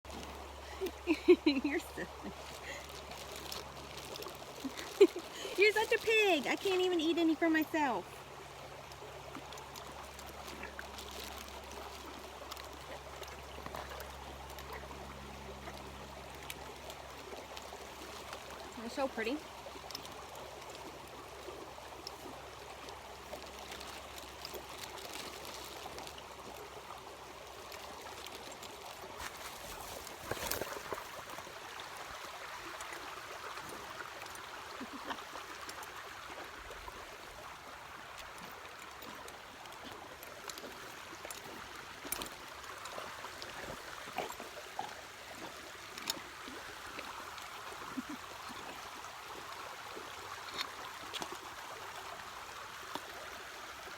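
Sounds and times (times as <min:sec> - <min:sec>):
water trickling: 0:00.1 - 0:53.9.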